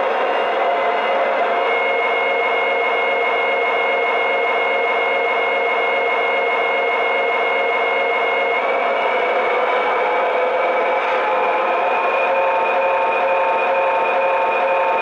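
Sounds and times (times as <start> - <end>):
toy locomotive engine drone: 0.0 - 15.0.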